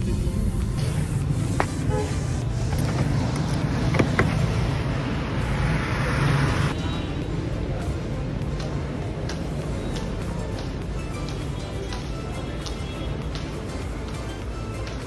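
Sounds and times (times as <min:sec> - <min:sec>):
traffic rumble: 0:00.0 - 0:14.1.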